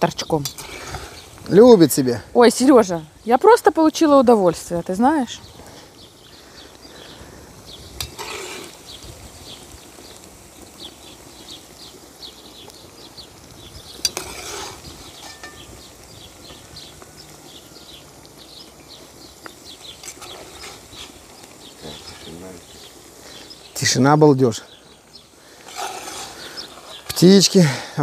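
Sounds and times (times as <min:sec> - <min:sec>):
small bird chirping: 0:04.7 - 0:27.6.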